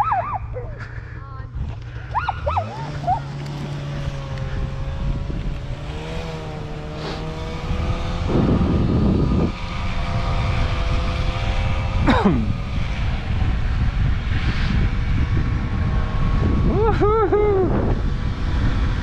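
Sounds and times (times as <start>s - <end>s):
sled runners rumbling on snow: 0.6s - 19.0s
wind on microphone: 1.5s - 19.0s.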